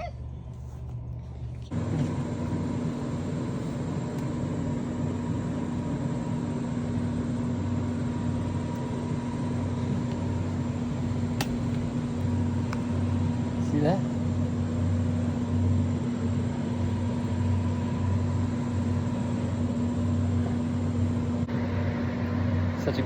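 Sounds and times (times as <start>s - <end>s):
machine hum with high tone: 0.0s - 23.0s.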